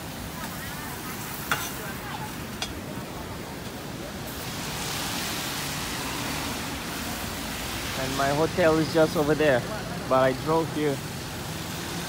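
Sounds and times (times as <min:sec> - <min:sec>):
steady street hiss: 0:00.0 - 0:12.0
vehicle tyres on wet road: 0:00.0 - 0:12.0.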